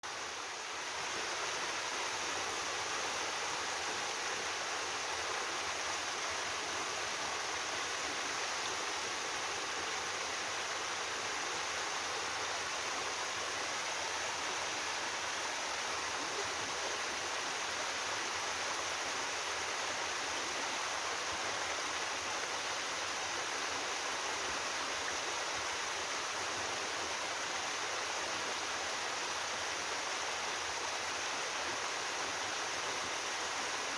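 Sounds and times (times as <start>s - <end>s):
waterfall rushing over rock: 0.1s - 33.9s.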